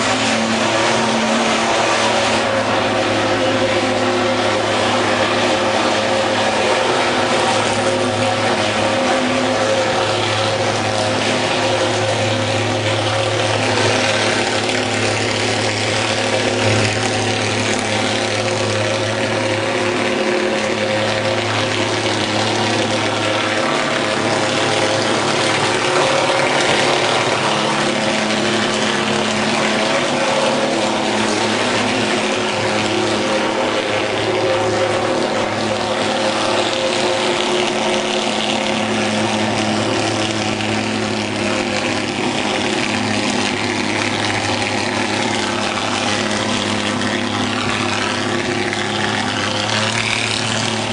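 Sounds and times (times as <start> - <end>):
fogging machine droning: 0.0 - 50.9.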